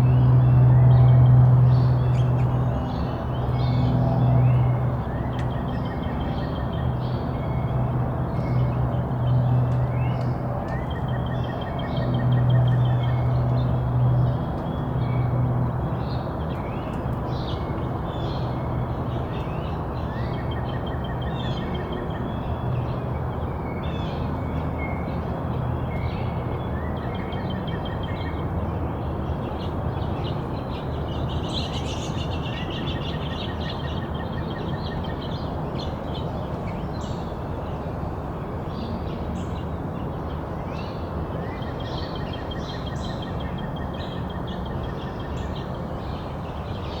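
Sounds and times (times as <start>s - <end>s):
outdoor background noise: 0.0s - 47.0s
songbirds chirping and trilling: 0.1s - 37.9s.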